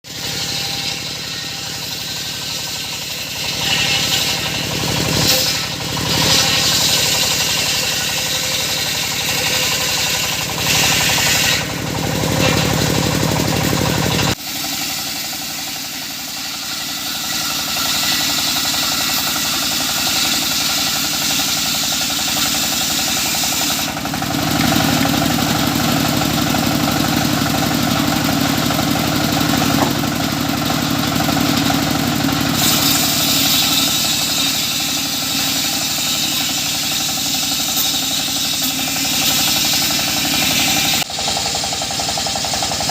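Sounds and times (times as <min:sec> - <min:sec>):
circular saw cutting wood: 0:00.0 - 0:42.9.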